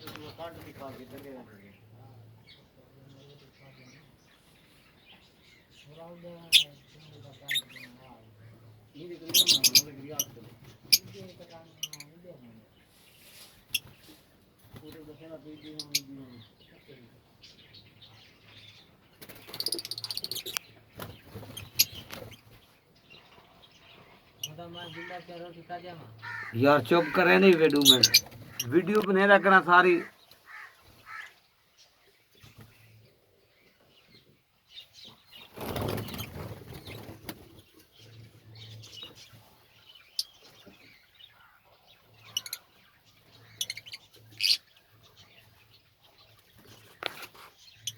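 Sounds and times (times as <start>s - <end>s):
lovebirds chattering: 0.0s - 47.9s.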